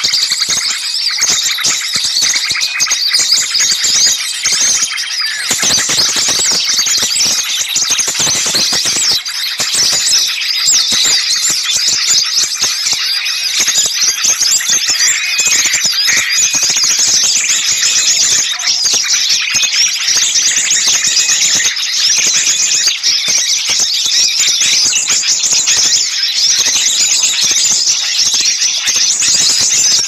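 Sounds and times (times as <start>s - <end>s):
chorus of small songbirds: 0.0s - 30.0s.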